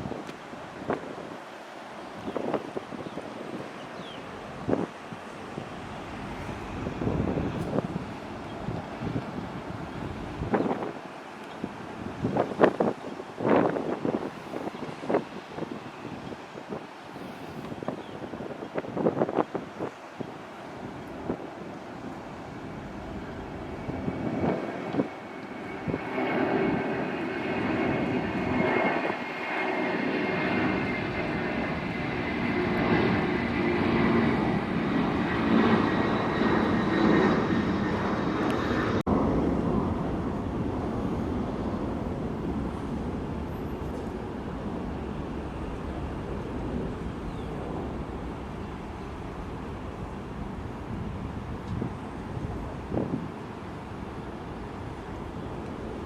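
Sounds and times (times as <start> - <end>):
jet engines passing with whine: 0.0 - 56.0.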